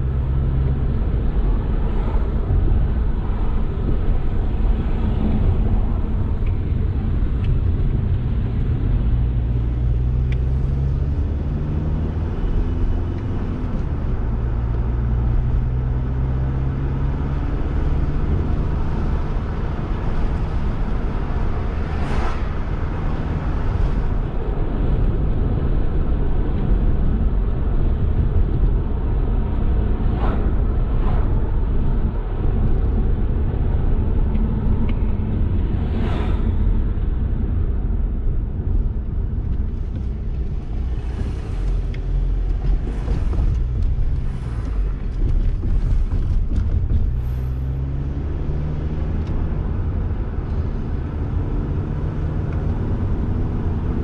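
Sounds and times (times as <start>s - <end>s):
traffic engine rumble: 0.0s - 54.0s.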